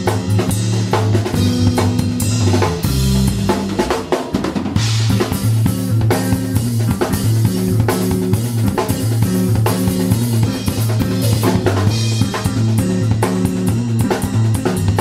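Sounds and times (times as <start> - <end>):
drum kit playing: 0.0 - 15.0
electric bass playing low notes: 0.0 - 15.0.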